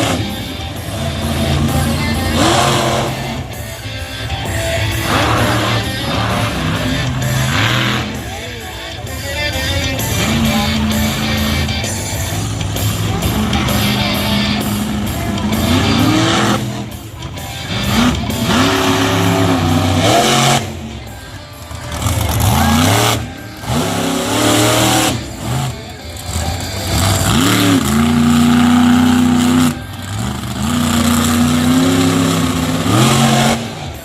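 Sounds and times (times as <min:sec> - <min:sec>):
monster truck engine revving: 0:00.0 - 0:34.0
music playing: 0:00.0 - 0:34.0.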